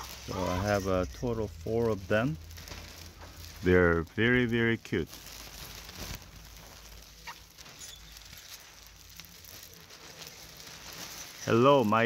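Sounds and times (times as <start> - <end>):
chickens scratching in straw: 0.0 - 12.0.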